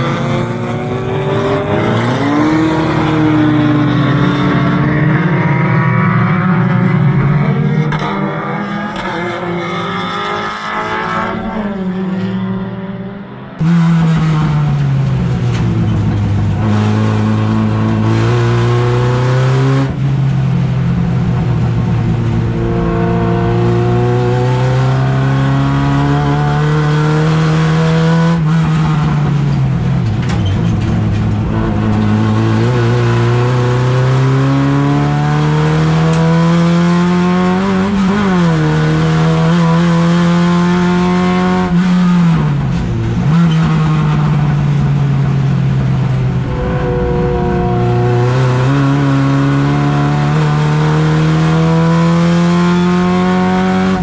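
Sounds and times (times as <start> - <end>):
car passing trackside: 0.0 - 54.0
race car engine revving: 0.0 - 54.0.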